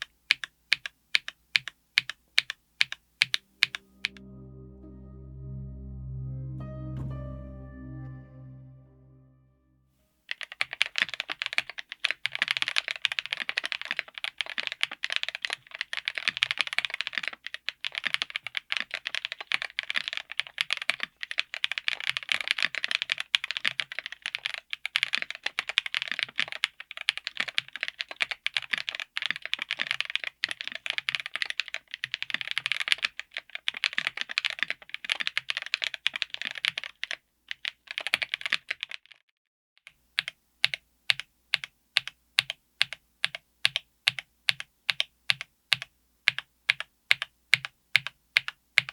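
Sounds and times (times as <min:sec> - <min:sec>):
fast mechanical keyboard typing: 0:00.0 - 0:03.8, 0:10.3 - 0:39.2, 0:40.2 - 0:48.9.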